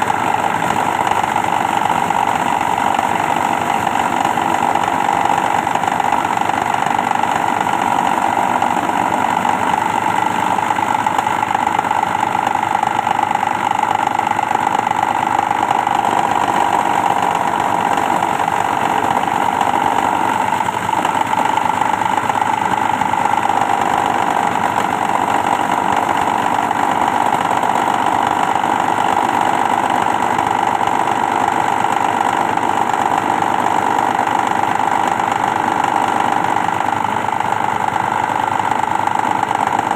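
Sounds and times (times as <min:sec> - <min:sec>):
shredding machine whining: 0:00.0 - 0:39.9.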